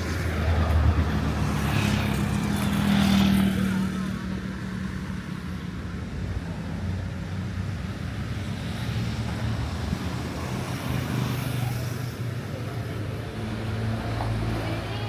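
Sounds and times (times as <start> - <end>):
road noise: 0.0 - 15.0
vehicle engines running: 0.0 - 15.0.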